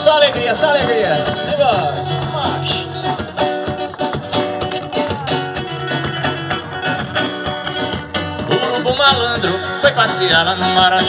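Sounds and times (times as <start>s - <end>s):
steady percussion: 0.0s - 11.0s
strummed guitar: 0.0s - 11.0s.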